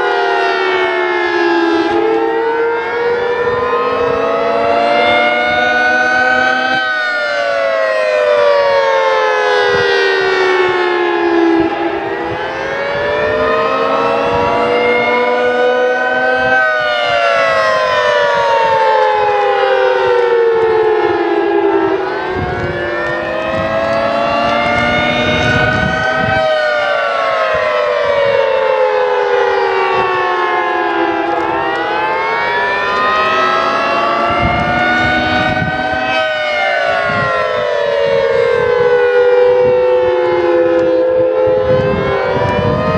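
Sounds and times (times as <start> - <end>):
rotating siren wailing: 0.0 - 42.9.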